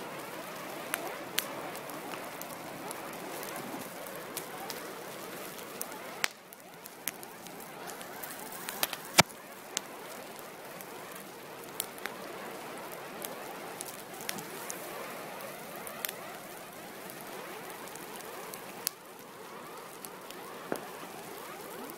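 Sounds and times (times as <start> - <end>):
fire hissing and crackling: 0.0 - 21.9.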